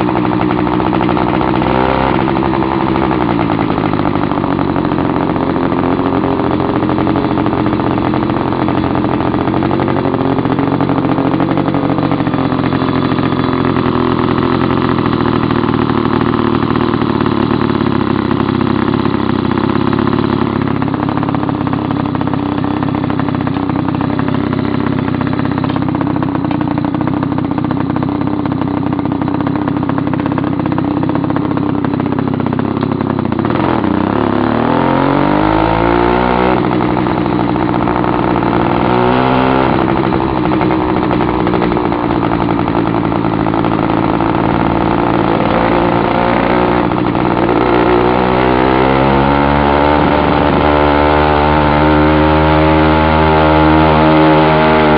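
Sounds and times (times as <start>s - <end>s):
loud two-stroke bicycle engine: 0.0s - 54.9s.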